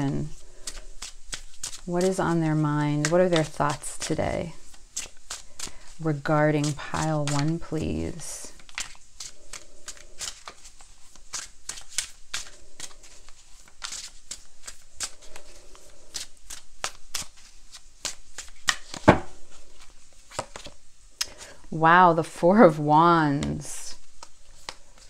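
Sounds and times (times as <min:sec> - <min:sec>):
cards being shuffled: 0:00.0 - 0:21.5, 0:23.3 - 0:25.0.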